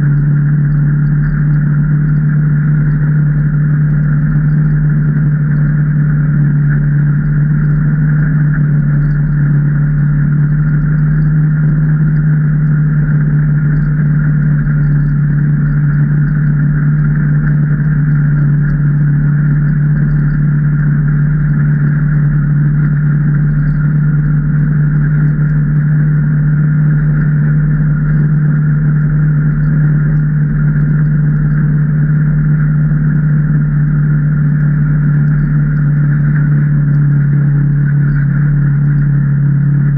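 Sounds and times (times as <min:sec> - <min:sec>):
engine running at steady speed: 0:00.0 - 0:39.9.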